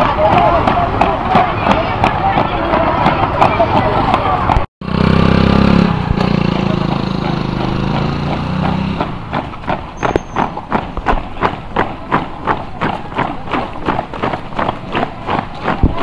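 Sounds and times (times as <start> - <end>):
boots running on paved road: 0.0 - 4.7, 6.1 - 16.0.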